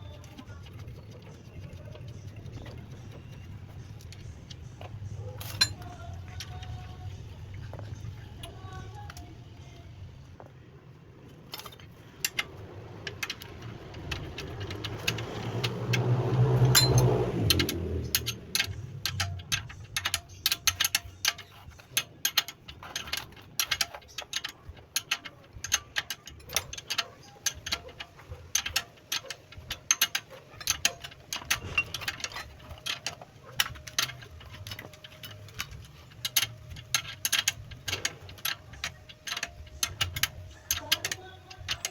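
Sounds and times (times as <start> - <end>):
tools clicking on metal parts: 0.0 - 9.8, 11.3 - 41.9.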